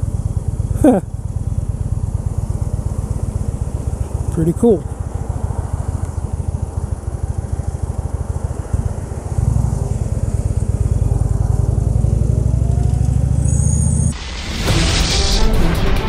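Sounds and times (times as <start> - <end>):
motorcycle engine chugging: 0.0 - 14.2.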